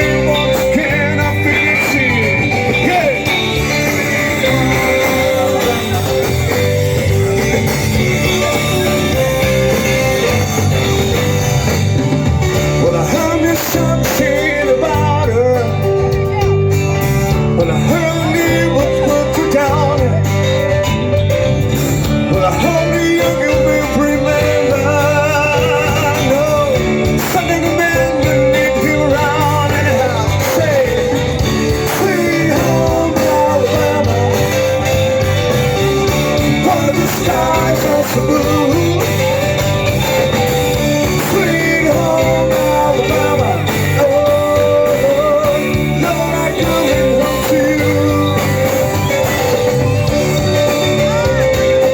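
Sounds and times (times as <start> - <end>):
person singing: 0.0 - 11.7, 12.5 - 20.9, 22.2 - 51.9
electric guitar: 0.0 - 51.9
live rock band: 0.0 - 51.9.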